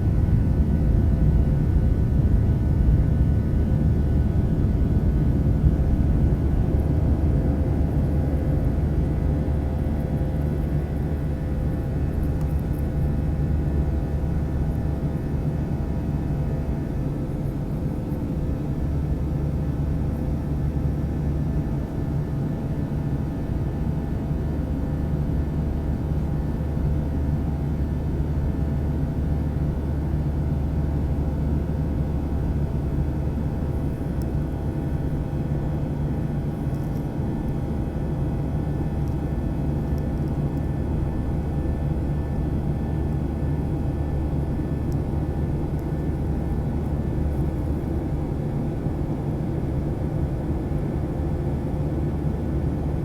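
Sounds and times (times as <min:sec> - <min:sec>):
jet engines droning in cabin: 0:00.0 - 0:53.0.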